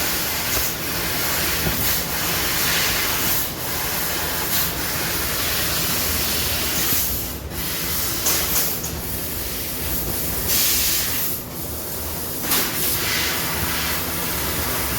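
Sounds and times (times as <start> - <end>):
laser cutter hiss: 0.0 - 14.9.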